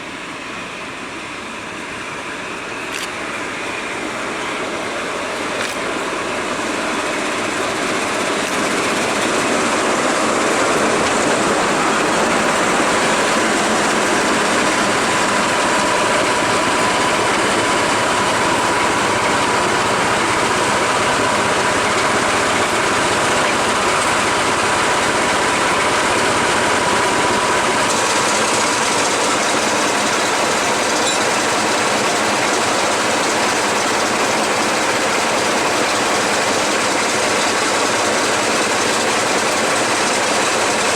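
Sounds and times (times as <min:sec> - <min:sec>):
train rushing on rails: 0:00.0 - 0:40.9.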